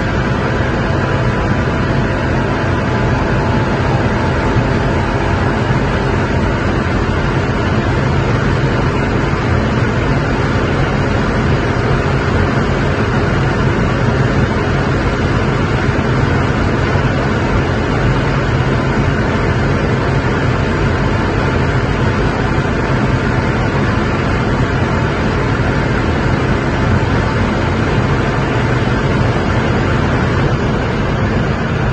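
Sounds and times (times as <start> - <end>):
car engine drone: 0.0 - 31.9
wind noise: 0.0 - 31.9.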